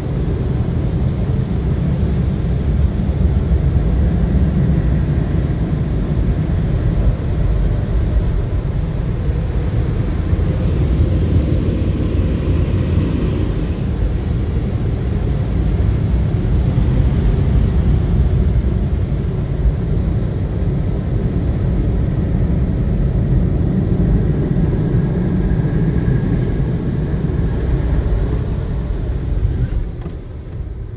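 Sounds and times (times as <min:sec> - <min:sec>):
car wash dryer blowers: 0:00.0 - 0:30.9.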